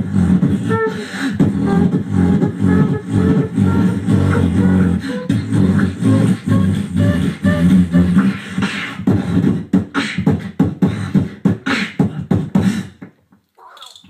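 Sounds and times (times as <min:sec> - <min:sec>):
beatboxing percussive mouth strokes: 0:00.0 - 0:14.0.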